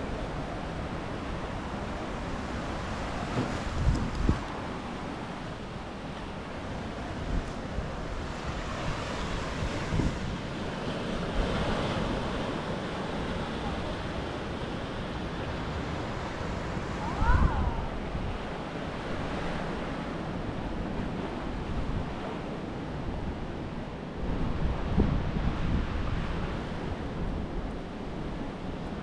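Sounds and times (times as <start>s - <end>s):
waves washing on shore: 0.0s - 29.0s
wind buffeting microphone: 0.0s - 29.0s.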